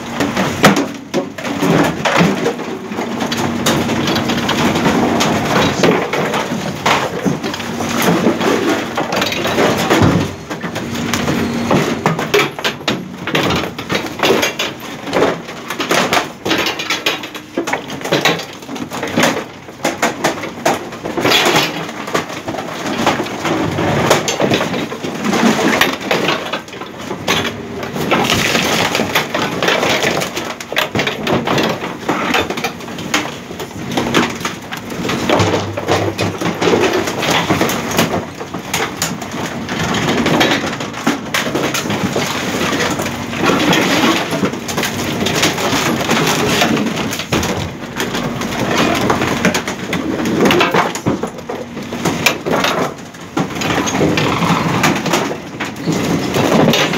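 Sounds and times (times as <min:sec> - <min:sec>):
metal and wood cracking: 0:00.0 - 0:56.9.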